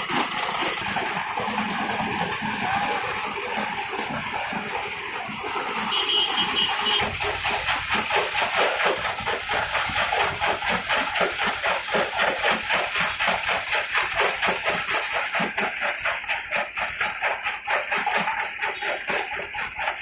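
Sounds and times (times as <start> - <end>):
machine rapid regular knocking: 0.0 - 20.0.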